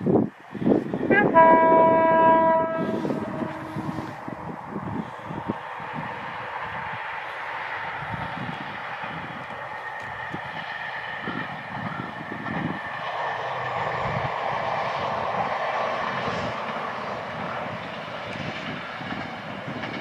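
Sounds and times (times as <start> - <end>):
diesel railcar passing: 0.0 - 20.0.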